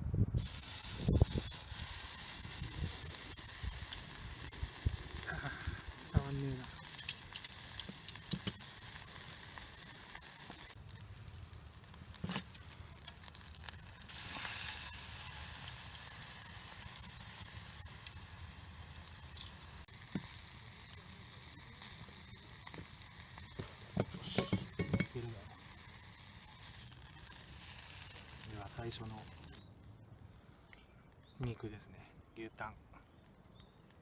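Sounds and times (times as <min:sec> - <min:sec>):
fat sizzling on a grill: 0:00.4 - 0:29.7.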